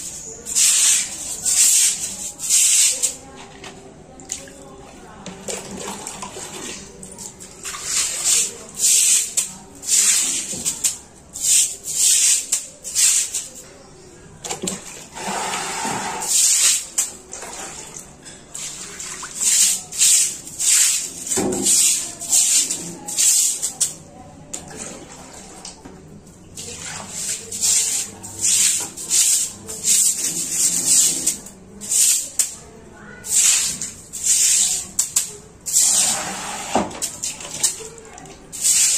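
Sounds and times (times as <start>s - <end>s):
broom scrubbing wet tiles: 0.0s - 38.9s
water splashing on floor: 0.0s - 38.9s.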